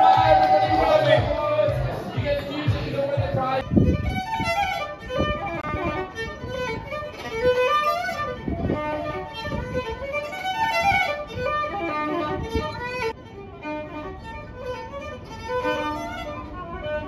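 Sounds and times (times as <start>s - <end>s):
solo violin: 0.0s - 17.0s.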